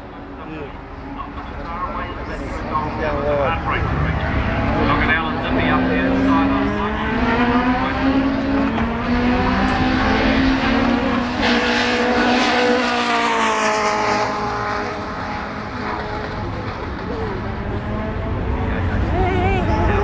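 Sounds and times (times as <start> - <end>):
racing car engines at high revs: 0.0 - 20.0.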